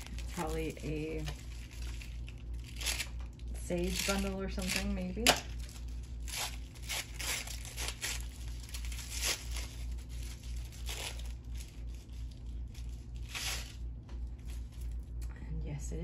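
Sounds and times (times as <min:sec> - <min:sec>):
wrapping being torn and crinkled: 0:00.0 - 0:15.2
steady low hum: 0:00.0 - 0:16.0.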